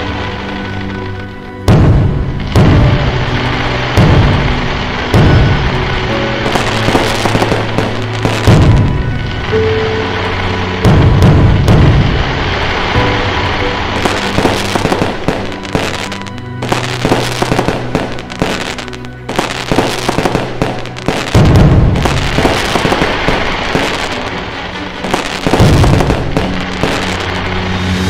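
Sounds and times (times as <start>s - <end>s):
fireworks crackling: 0.0s - 28.0s
music with bass notes: 1.3s - 28.0s
heavy firework booms: 1.7s - 27.4s.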